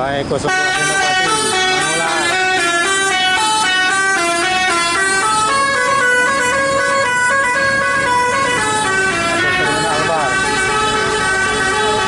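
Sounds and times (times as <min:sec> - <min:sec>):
multi-tone air horn melody: 0:00.4 - 0:12.0.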